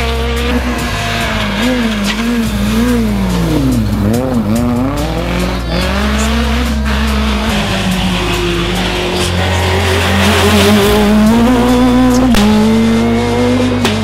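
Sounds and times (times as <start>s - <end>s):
rally car engine revving: 0.0s - 14.0s
tyres squealing: 0.4s - 13.1s.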